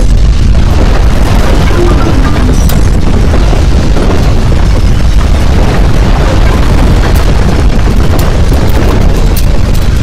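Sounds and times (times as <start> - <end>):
deep earthquake rumble: 0.0 - 10.0.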